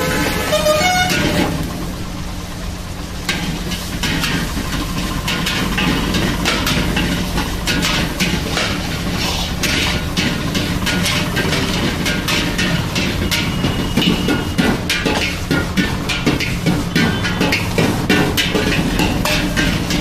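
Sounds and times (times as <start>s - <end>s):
ladle scraping a wok: 0.0s - 2.0s, 3.1s - 20.0s.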